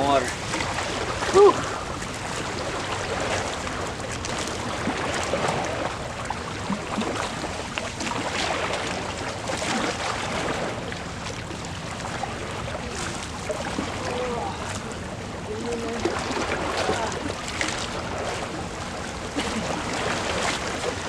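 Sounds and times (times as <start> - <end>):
lake water splashing and lapping: 0.0 - 21.0.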